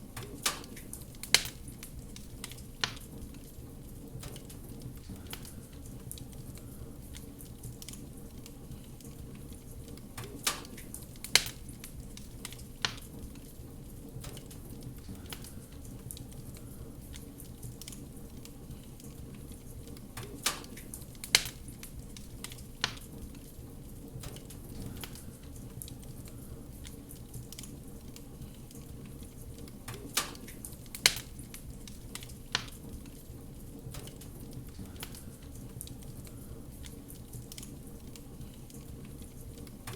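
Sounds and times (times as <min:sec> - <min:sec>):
fire crackling: 0:00.0 - 0:39.9
sharp fire pops: 0:00.2 - 0:03.5, 0:04.1 - 0:06.4, 0:10.2 - 0:18.6, 0:19.9 - 0:39.9.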